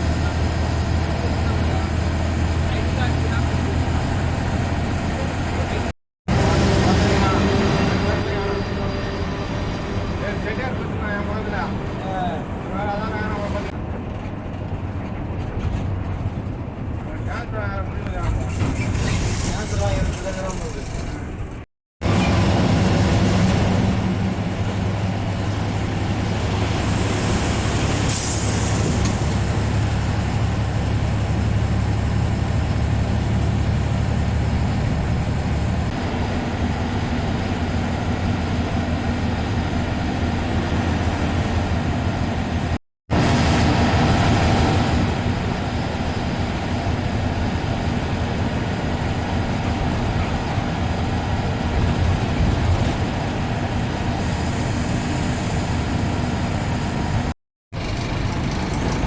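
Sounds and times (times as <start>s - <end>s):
diesel bus engine running: 0.0s - 59.0s
road and cabin noise: 0.0s - 59.0s.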